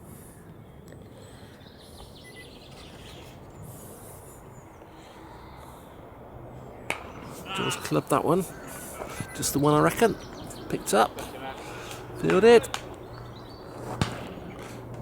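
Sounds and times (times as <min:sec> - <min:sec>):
faint bird chirps: 0:00.0 - 0:12.2
outdoor background noise: 0:00.0 - 0:15.0.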